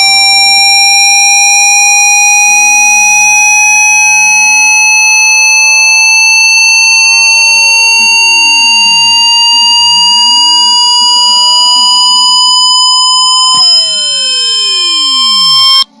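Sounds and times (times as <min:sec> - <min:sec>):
steady high electronic tone: 0:00.0 - 0:16.0
sweeping electronic tones: 0:00.0 - 0:16.0.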